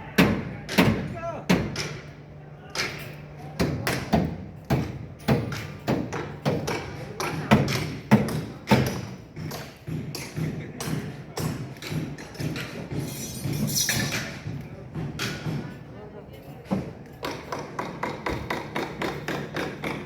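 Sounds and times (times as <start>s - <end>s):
knocks and thuds of building work: 0.2s - 2.1s, 3.6s - 15.9s, 16.6s - 20.0s.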